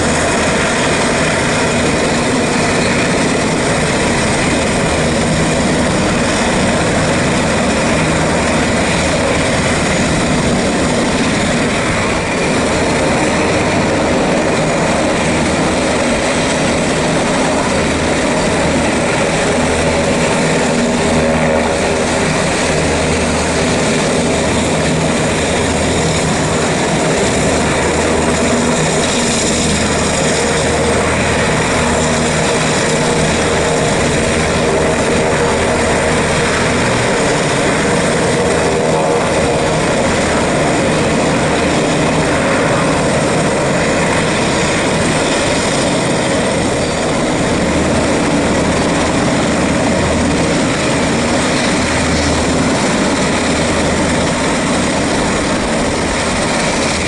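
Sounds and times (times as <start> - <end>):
helicopter engines and rotors: 0.0 - 57.0.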